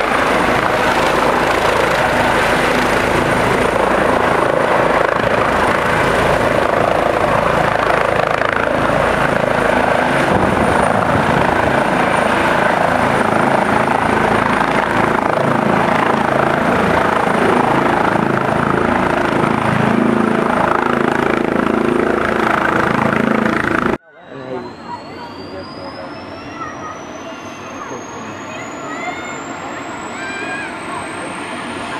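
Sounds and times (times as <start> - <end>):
helicopter rotor and turbine: 0.0 - 31.9.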